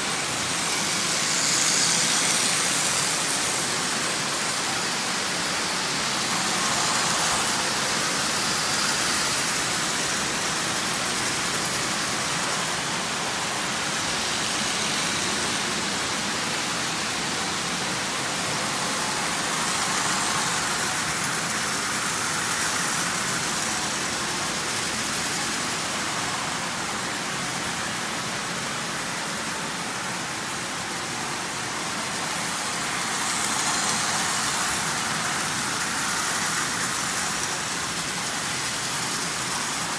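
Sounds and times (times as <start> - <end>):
model trains whirring and rattling: 0.0 - 39.9.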